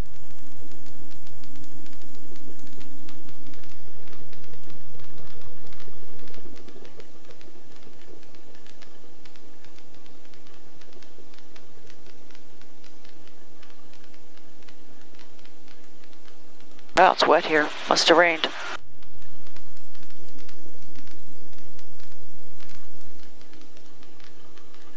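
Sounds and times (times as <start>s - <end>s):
rapid irregular clicking: 0.0s - 17.9s, 18.5s - 24.9s
helicopter cockpit hum: 0.0s - 24.9s.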